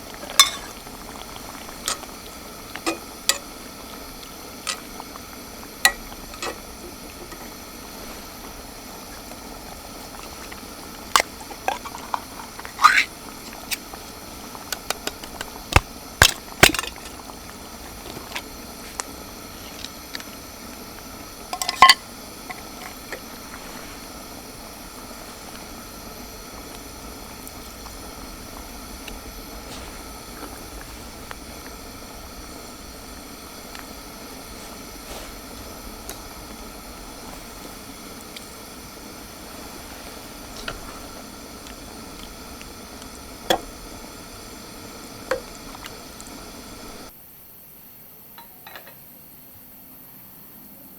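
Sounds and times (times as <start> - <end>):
stew bubbling in a pot: 0.0 - 47.2.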